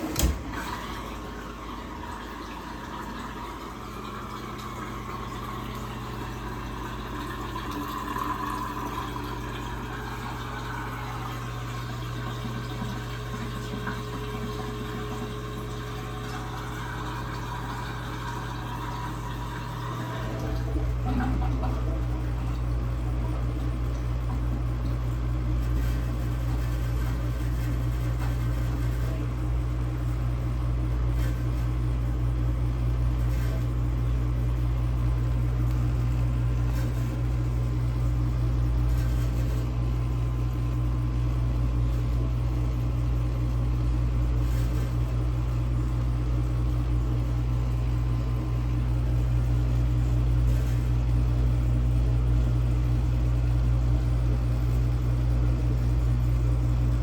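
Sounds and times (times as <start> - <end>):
wash water in tub: 0.0 - 54.6
dishwasher pump motor humming: 0.0 - 57.0.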